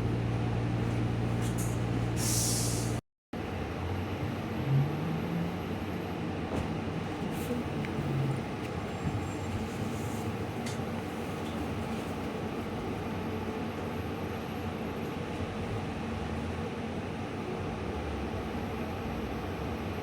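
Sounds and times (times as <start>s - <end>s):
trolleybus cabin rumble: 0.0s - 20.0s.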